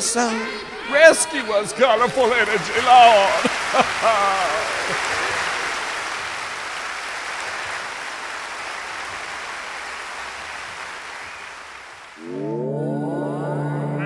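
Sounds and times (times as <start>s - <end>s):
audience applause: 0.9s - 12.2s.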